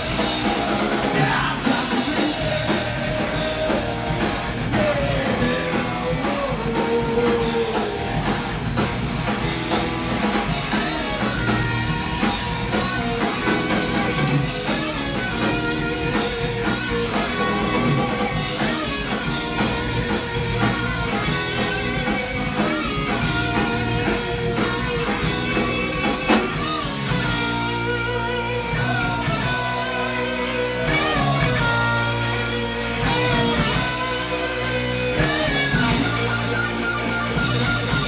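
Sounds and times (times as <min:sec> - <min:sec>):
bass guitar: 0:00.0 - 0:38.0
distorted electric guitars: 0:00.0 - 0:38.0
drum kit: 0:00.0 - 0:38.0.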